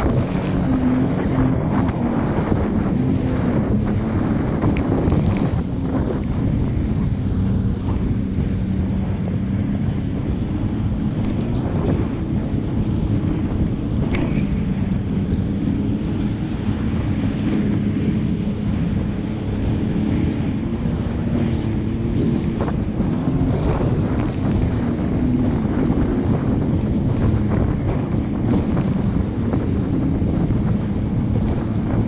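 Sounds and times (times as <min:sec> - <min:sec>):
jet ski engine droning: 0:00.0 - 0:32.0
wind buffeting microphone: 0:00.0 - 0:32.0.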